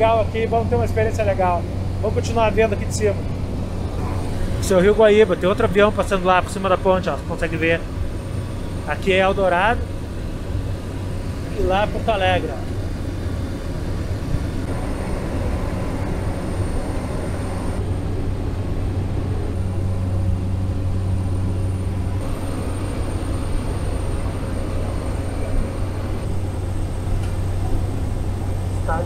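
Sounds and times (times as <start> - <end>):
propeller plane engine drone: 0.0 - 29.0.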